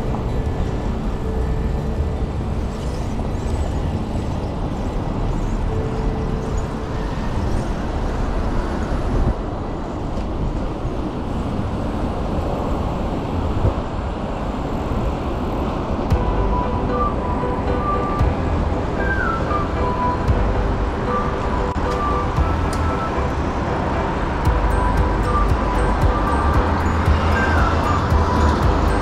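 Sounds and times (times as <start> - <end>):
road traffic noise: 0.0 - 29.0
wind rushing over microphone: 0.0 - 29.0.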